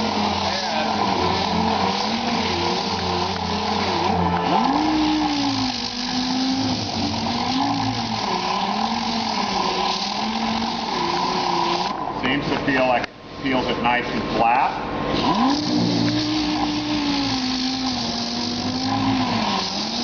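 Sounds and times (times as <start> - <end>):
sander motor whine: 0.0 - 12.2, 15.3 - 20.0.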